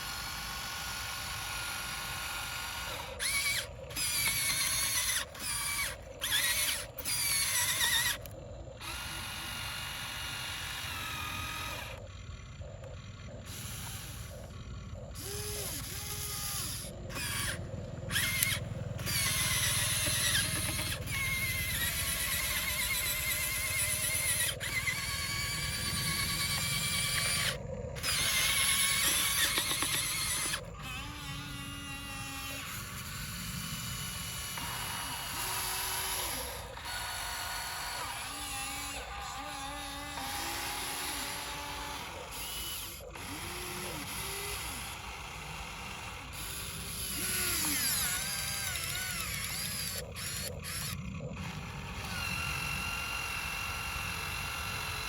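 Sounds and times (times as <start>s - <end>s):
small electric motor whining: 0.0s - 55.0s.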